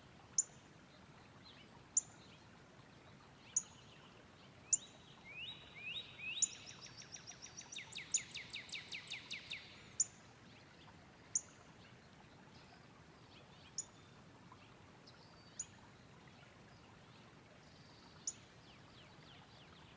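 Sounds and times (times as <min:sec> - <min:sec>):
faint steady hiss: 0:00.0 - 0:19.9.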